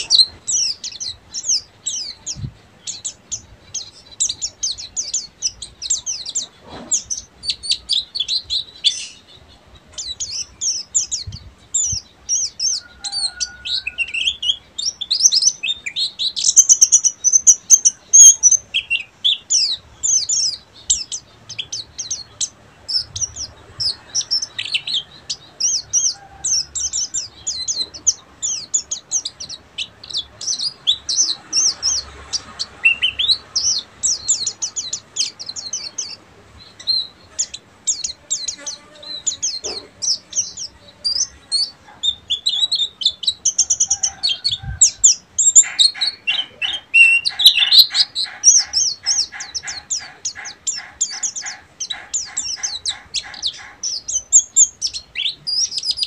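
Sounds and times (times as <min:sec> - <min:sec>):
bird twittering chirps: 0:00.0 - 0:56.0.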